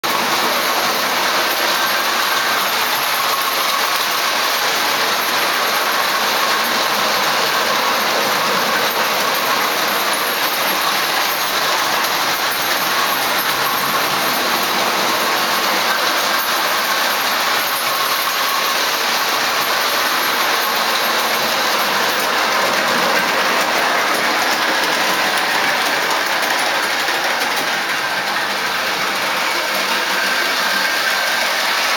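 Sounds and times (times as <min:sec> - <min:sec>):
model train whirring rattle: 0:00.0 - 0:31.9.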